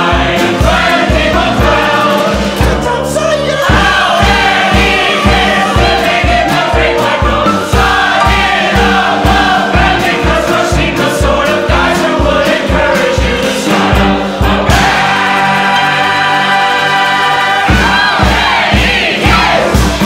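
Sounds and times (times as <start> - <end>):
band accompaniment with kick drum: 0.0 - 16.5, 17.5 - 20.0
group singing pop-folk song: 0.0 - 20.0.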